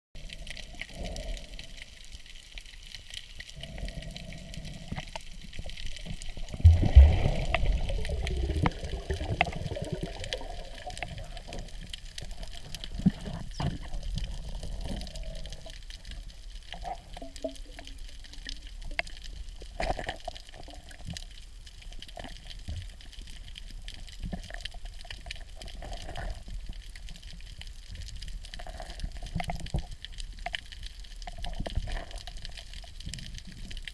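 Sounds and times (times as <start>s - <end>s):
low underwater rush: 0.2s - 33.9s
water bubbling underwater: 0.2s - 33.9s.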